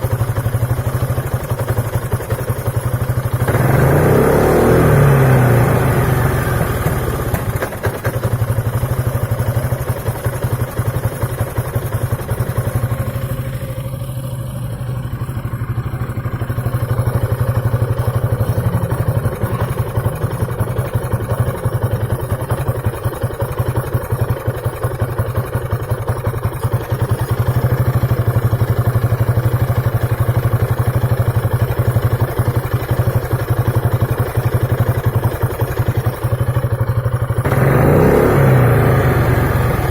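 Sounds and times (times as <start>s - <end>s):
scooter engine idling with misfire: 0.0s - 39.9s.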